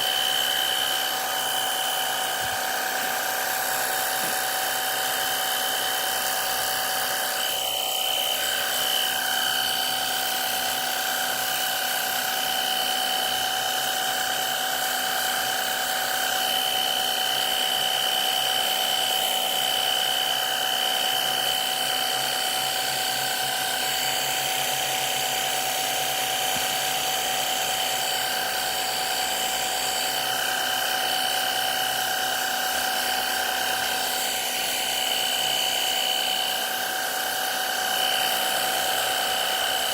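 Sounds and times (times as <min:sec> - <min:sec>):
jet washer motor whining: 0:00.0 - 0:39.9.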